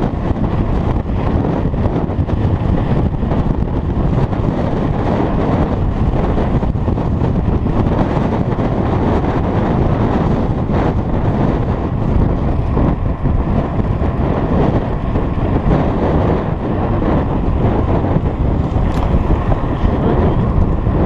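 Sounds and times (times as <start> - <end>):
tyres rumbling on asphalt: 0.0 - 21.0
wind buffeting microphone: 0.0 - 21.0.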